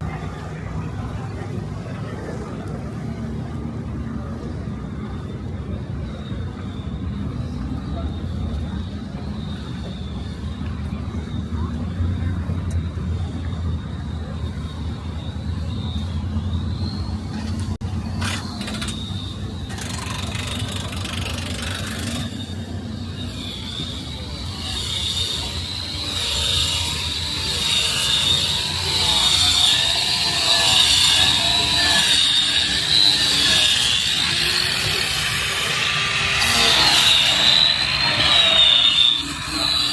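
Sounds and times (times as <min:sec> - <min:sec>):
race car engines roaring: 0:00.0 - 0:39.9.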